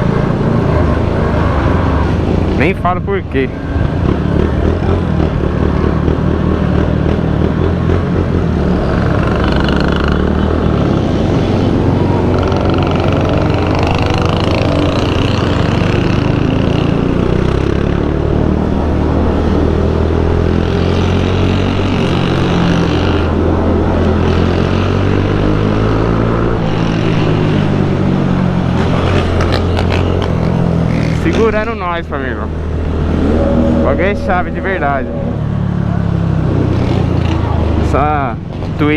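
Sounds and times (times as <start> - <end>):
motorcycle engine drone: 0.0 - 38.9
motorcycles passing: 0.0 - 38.9.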